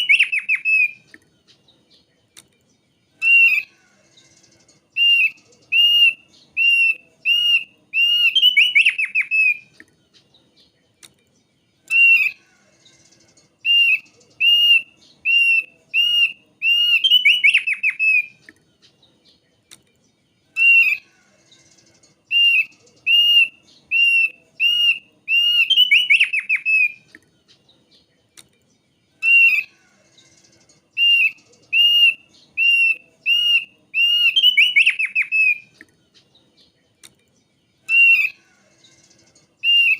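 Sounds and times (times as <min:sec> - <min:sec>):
bird whistling song with trill: 0:00.0 - 0:10.7, 0:11.8 - 0:18.5, 0:20.5 - 0:28.1, 0:29.2 - 0:36.8, 0:37.8 - 0:39.9.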